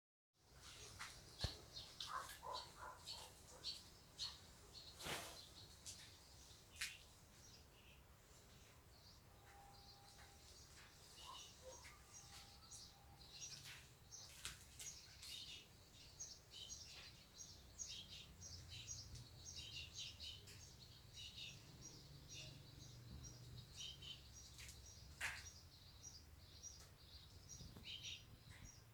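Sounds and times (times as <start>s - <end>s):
small birds chirping: 0.4s - 28.9s.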